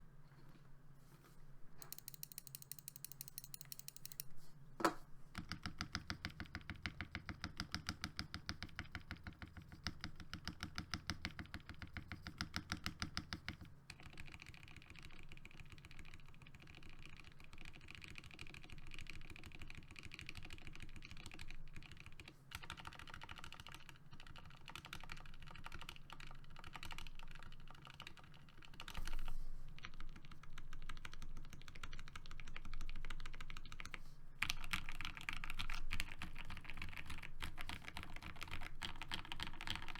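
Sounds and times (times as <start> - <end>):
mechanical keyboard typing: 1.8 - 4.3, 5.4 - 39.9.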